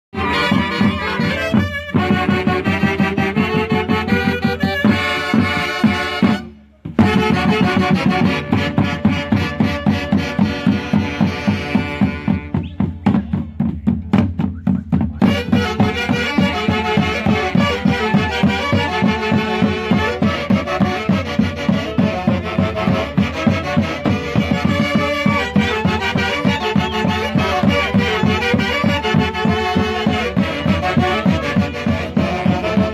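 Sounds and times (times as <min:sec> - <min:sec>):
saxophones and clarinets: 0:00.1 - 0:13.3, 0:15.2 - 0:32.9
drums keeping a steady beat: 0:00.1 - 0:32.9
violin: 0:00.2 - 0:13.3, 0:15.2 - 0:32.9.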